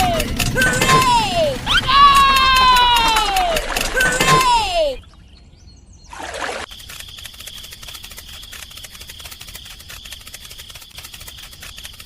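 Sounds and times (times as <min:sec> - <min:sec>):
fast even gear clicking: 0:00.0 - 0:04.6, 0:06.7 - 0:12.0.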